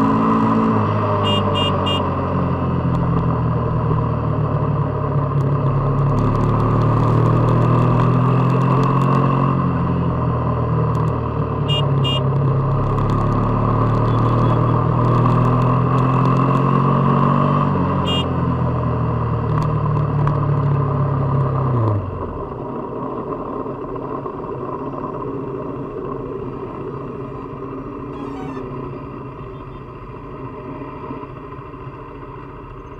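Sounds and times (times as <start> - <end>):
motorcycle engine and exhaust: 0.0 - 32.9
road and wind noise: 0.0 - 32.9.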